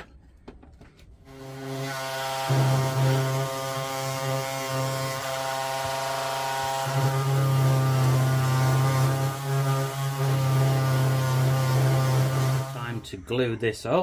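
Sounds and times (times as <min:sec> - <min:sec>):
drill press drilling wood: 0:01.3 - 0:13.0.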